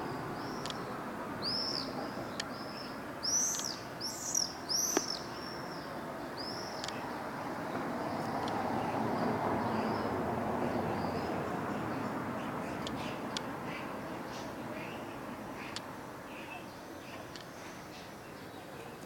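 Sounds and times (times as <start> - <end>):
birds chirping: 0.0 - 19.0
steady low background noise: 0.0 - 19.0.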